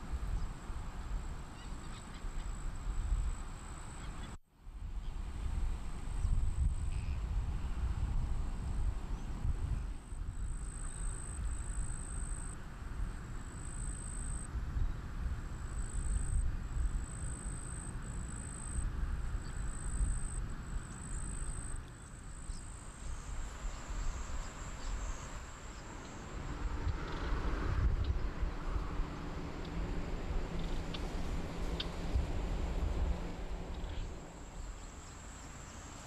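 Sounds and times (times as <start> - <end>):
wind rumble on microphone: 0.0 - 35.2.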